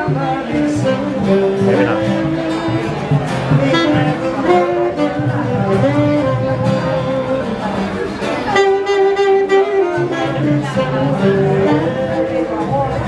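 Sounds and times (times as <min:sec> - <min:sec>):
amplified guitar melody: 0:00.0 - 0:13.0
bass line: 0:00.0 - 0:13.0.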